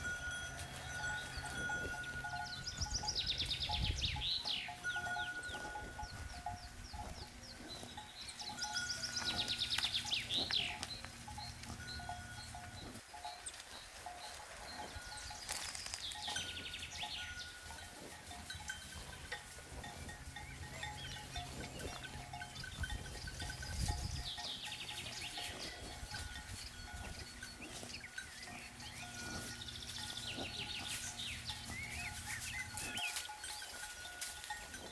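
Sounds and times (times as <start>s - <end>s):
high chirping calls: 0.0s - 17.9s, 18.5s - 34.5s
cowbells clanking: 0.0s - 34.9s.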